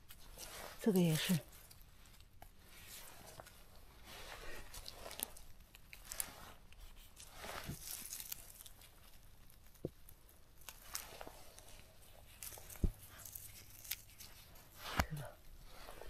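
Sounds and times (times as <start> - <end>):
small crackles and snaps: 0.0 - 3.7, 4.6 - 15.5.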